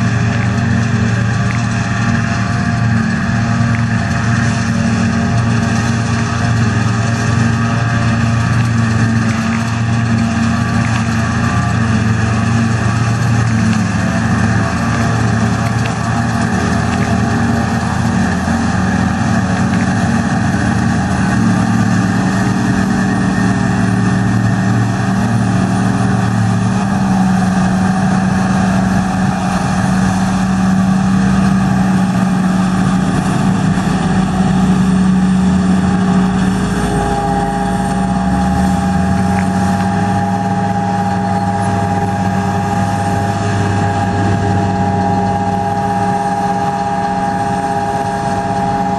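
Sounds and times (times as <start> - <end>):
high steady whine: 0.0 - 48.9
machine drone: 0.0 - 48.9.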